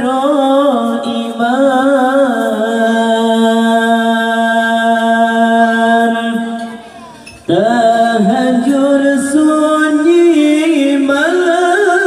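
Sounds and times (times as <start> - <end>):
man singing: 0.0 - 6.8, 7.5 - 12.0.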